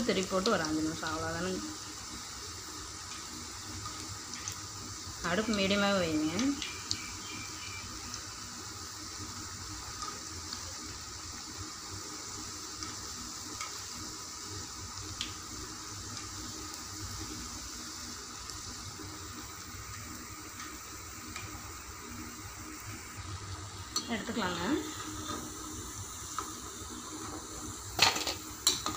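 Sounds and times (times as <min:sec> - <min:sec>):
fritters sizzling in hot oil: 0:00.0 - 0:28.9.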